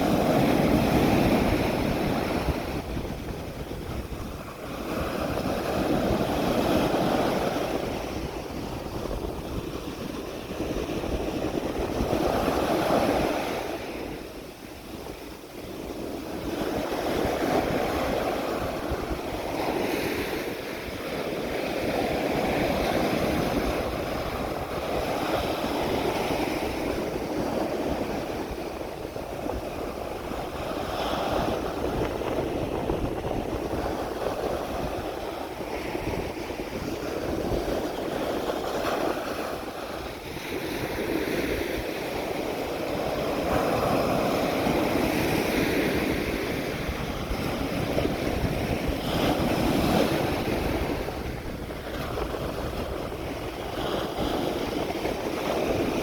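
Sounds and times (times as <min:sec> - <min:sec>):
ocean waves washing onto beach: 0:00.0 - 0:56.0
wind rumble on microphone: 0:00.0 - 0:56.0.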